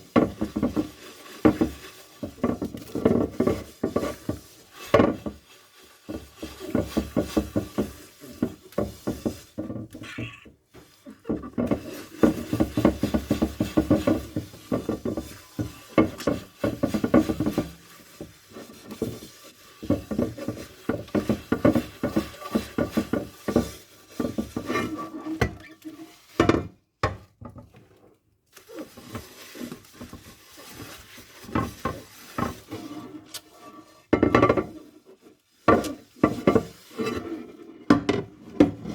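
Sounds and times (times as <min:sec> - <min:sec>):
dishes clattering while washed: 0:00.0 - 0:27.8, 0:28.7 - 0:35.0, 0:35.6 - 0:38.9.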